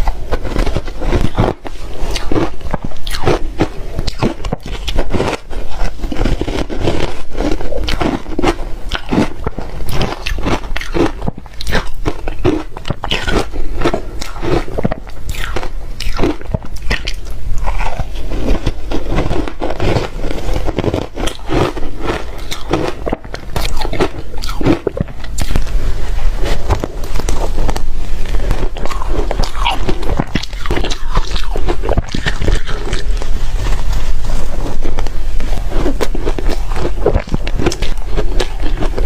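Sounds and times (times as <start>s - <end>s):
person chewing crunchy ice: 0.0s - 39.0s.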